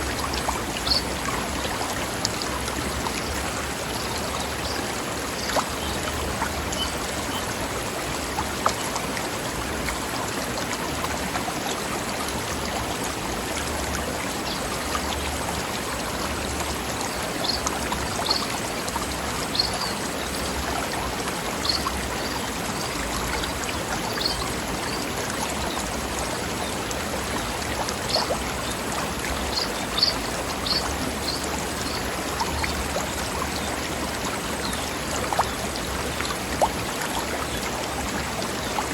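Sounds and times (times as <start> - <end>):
stream flowing over rocks: 0.0 - 38.9
water splashes: 0.0 - 38.9.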